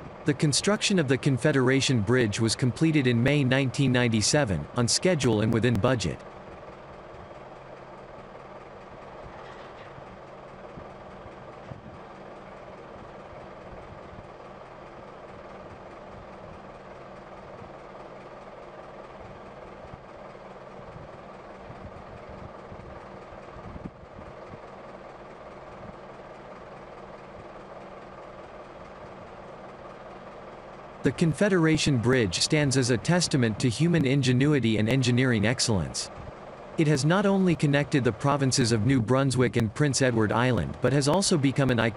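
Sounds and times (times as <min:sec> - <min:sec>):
heavy machinery engines running: 0:00.0 - 0:41.9.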